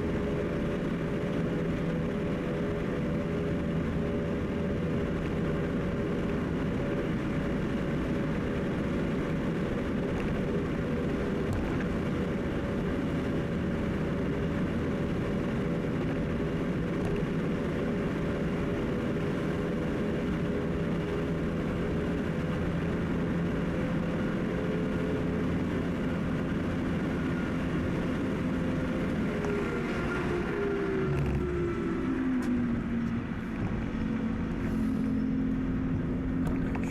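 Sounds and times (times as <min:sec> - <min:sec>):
car driving at highway speed: 0:00.0 - 0:36.9.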